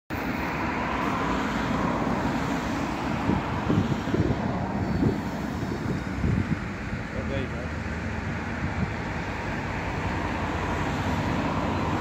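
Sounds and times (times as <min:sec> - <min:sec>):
distant locomotive engine rumble: 0:00.2 - 0:12.0.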